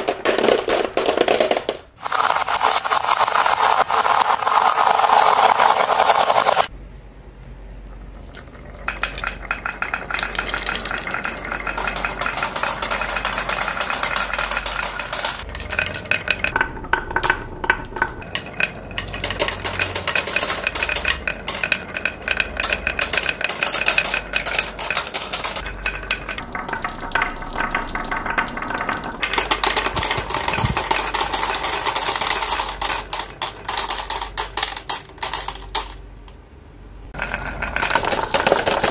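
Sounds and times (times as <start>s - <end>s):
marbles clattering into basket: 0.0s - 6.7s, 8.0s - 36.4s, 37.1s - 38.9s
marbles clicking together: 0.0s - 6.7s, 8.0s - 36.4s, 37.1s - 38.9s
marbles rolling on wooden track: 0.0s - 6.7s, 7.9s - 36.4s, 37.1s - 38.9s.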